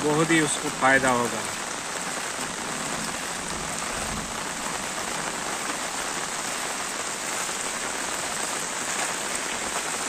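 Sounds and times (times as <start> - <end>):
heavy rain on flooded street: 0.0 - 10.0.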